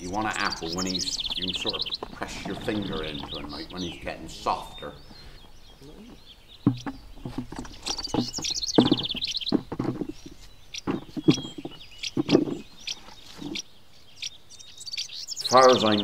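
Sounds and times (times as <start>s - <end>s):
irregular knocks and thumps: 0.0s - 13.6s
bird trill: 0.0s - 16.0s
birds chirping: 0.0s - 16.0s.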